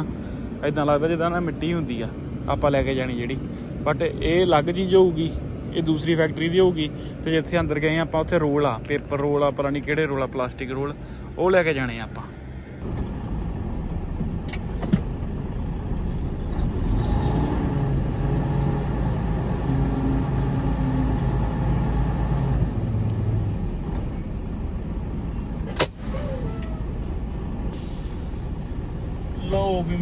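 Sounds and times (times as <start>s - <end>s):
truck diesel engine hum: 0.0s - 30.0s.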